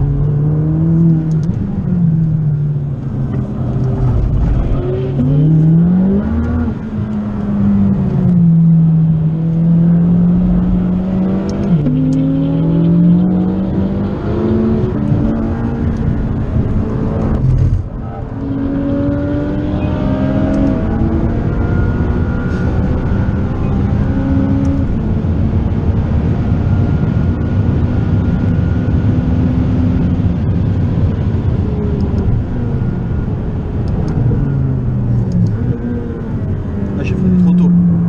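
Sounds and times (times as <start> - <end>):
car engine at speed: 0.0 - 38.0.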